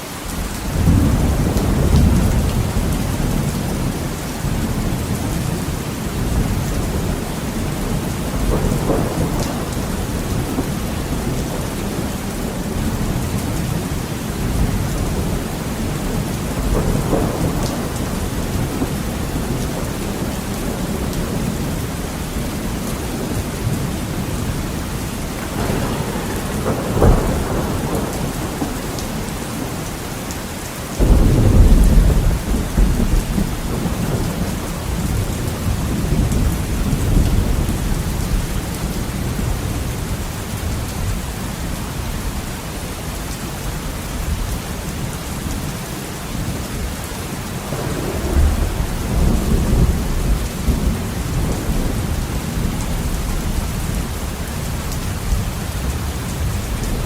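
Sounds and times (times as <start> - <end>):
heavy rain on a window: 0.0 - 57.0
thunder: 0.7 - 21.9, 22.5 - 30.4, 31.0 - 41.4, 47.6 - 57.0.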